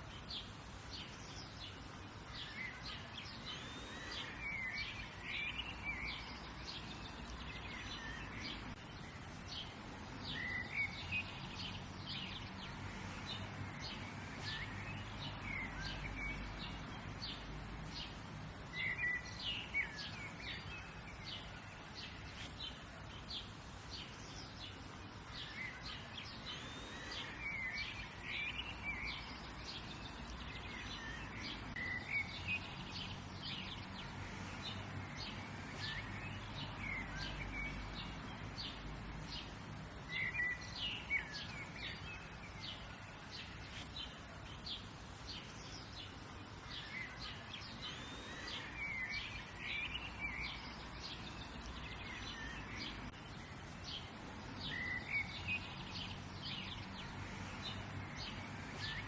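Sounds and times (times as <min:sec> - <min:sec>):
birds chirping: 0:00.0 - 0:59.0
soft outdoor hiss: 0:00.0 - 0:59.0.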